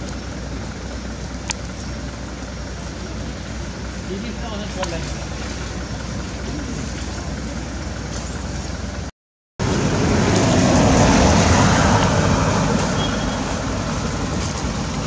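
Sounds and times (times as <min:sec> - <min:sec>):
traffic rumble: 0:00.0 - 0:15.0
vehicle passing: 0:02.8 - 0:15.0.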